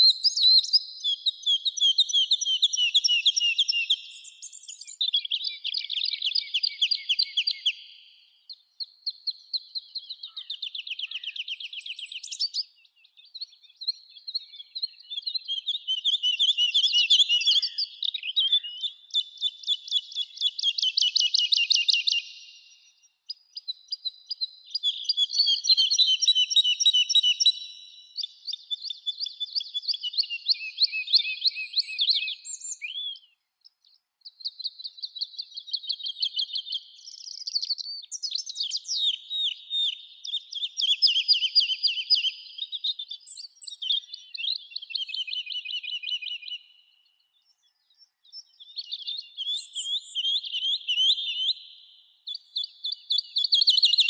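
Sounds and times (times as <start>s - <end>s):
songbirds singing trilled phrases: 0.0s - 54.0s.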